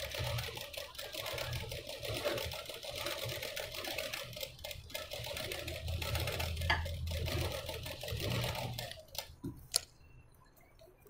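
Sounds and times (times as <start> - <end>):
sewing machine running: 0.0 - 9.3.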